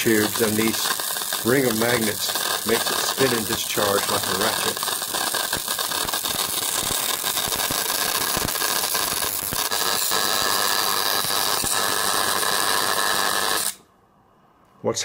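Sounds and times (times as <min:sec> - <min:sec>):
crackling clicks: 0:00.0 - 0:13.8
plasma discharge hiss: 0:00.0 - 0:13.8.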